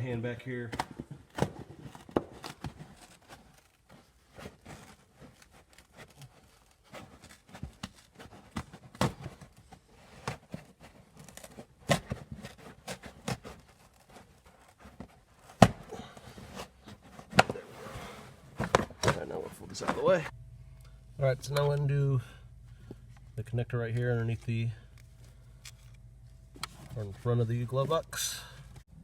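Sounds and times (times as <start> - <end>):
rustling of carpet and trim: 0.0 - 20.4, 22.7 - 28.8.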